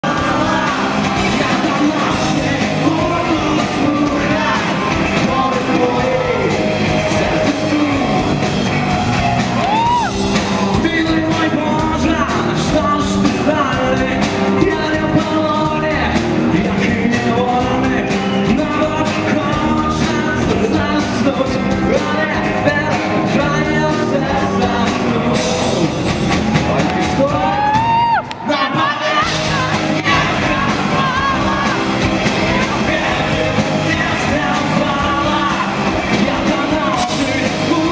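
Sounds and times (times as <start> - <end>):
person singing: 0.0 - 37.9
rock band playing live: 0.0 - 37.9.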